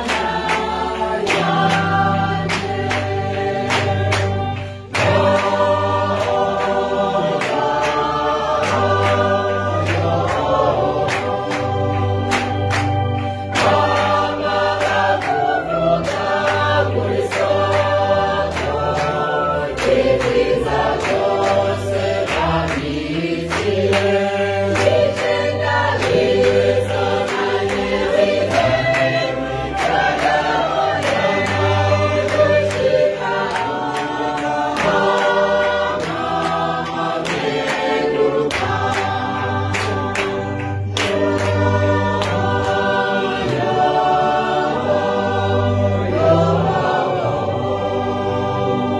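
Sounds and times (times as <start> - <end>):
congregation singing a hymn: 0.0 - 48.9
electronic keyboard: 0.0 - 48.9
rhythmic hand clapping: 0.0 - 48.9.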